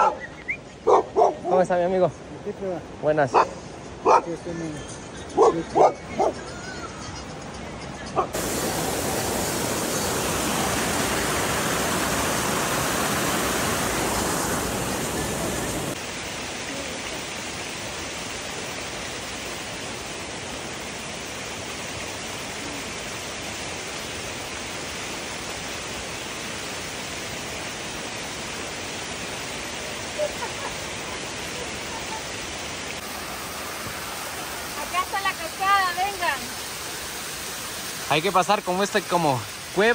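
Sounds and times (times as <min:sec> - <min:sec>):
small waterfall splashing: 0:00.0 - 0:06.3, 0:08.3 - 0:39.9
stream rushing over rocks: 0:00.0 - 0:06.4, 0:08.1 - 0:39.9.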